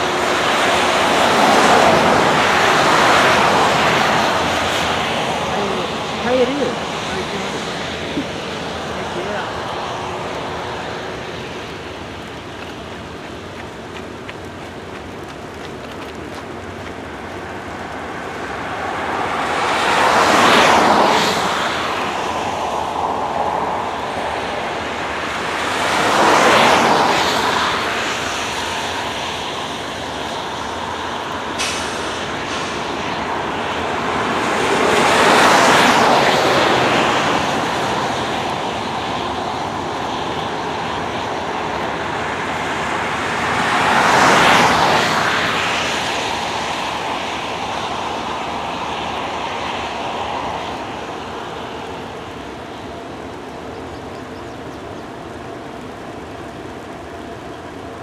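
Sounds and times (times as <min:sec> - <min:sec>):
distant freight train rumble: 0:00.0 - 0:58.0
road vehicles passing close: 0:00.0 - 0:58.0.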